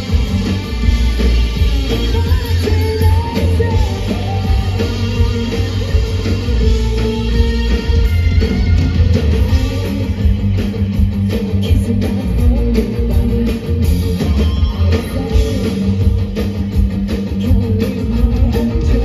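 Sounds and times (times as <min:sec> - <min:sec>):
electric guitar: 0:00.0 - 0:19.0
live rock band playing: 0:00.0 - 0:19.0.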